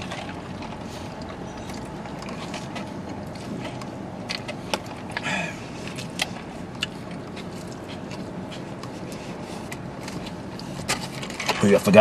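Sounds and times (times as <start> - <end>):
eating mouth noises and clicks: 0.0 - 11.0
car interior low hum: 0.0 - 12.0.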